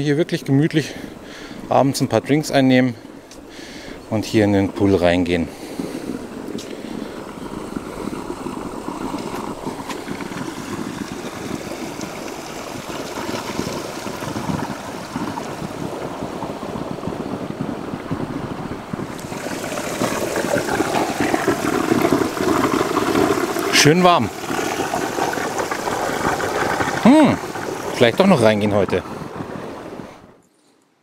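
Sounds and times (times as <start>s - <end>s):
water spilling into overflow gutter: 4.2s - 30.1s.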